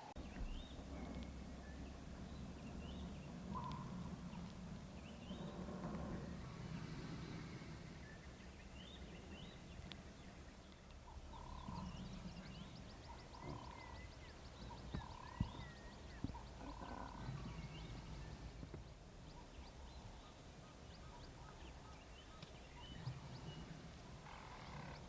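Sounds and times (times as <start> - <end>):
bird trill: 0.0 - 6.5, 8.0 - 25.0
steady low rumble: 0.0 - 25.0
birds chirping and whistling: 0.2 - 25.0.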